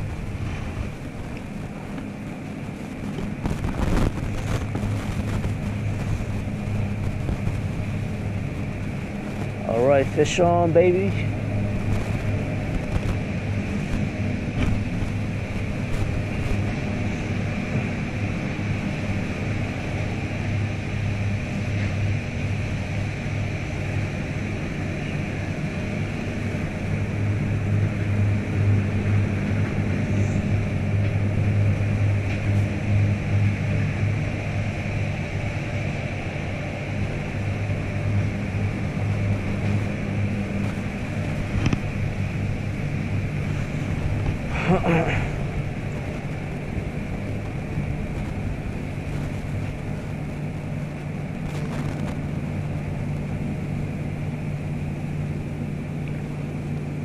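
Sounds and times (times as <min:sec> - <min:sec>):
motorboat engine humming: 0:00.0 - 0:57.0.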